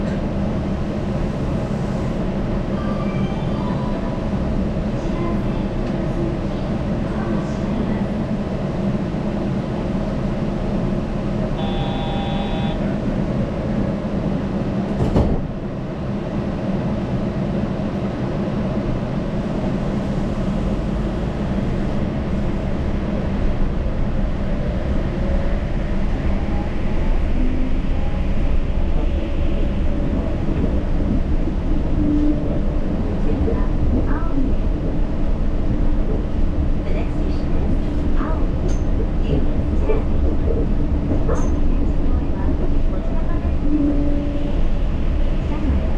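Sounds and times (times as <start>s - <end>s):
train rumbling: 0.0s - 45.9s.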